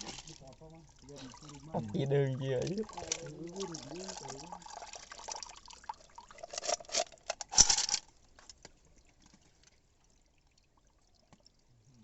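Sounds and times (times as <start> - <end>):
water dripping: 0.0 - 7.3, 8.1 - 12.0
water pouring and splashing: 0.0 - 11.7.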